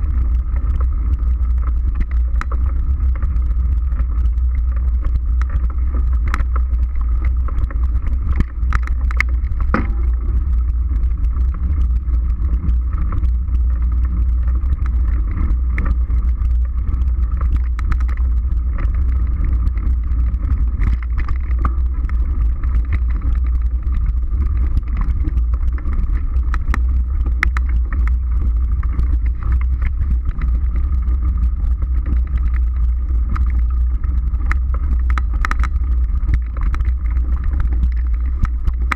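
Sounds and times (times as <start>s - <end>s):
bike knocks and rattles: 0.0s - 38.9s
wind and tyre rumble: 0.0s - 38.9s.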